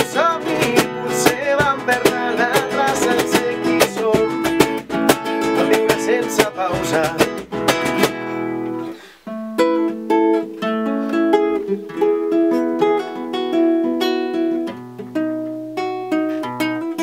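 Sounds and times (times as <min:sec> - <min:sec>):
acoustic guitar picked notes: 0:00.0 - 0:17.0
acoustic guitar strummed chords: 0:00.0 - 0:17.0.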